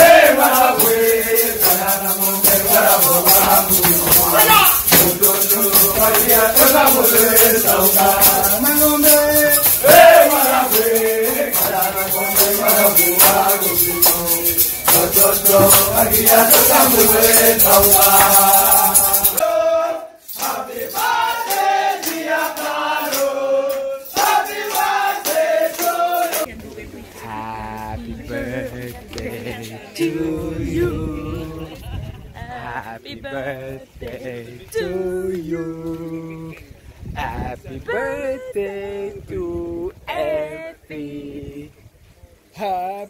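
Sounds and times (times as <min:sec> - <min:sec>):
group of men singing: 0:00.0 - 0:31.9, 0:32.7 - 0:36.6, 0:37.2 - 0:41.8
shaker rattling in rhythm: 0:00.0 - 0:41.6.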